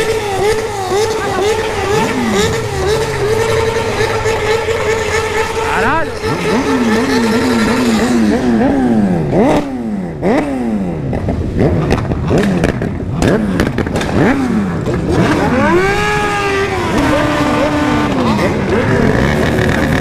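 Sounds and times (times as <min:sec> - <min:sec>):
motorcycle engines revving: 0:00.0 - 0:20.0
sharp exhaust pops: 0:00.0 - 0:20.0.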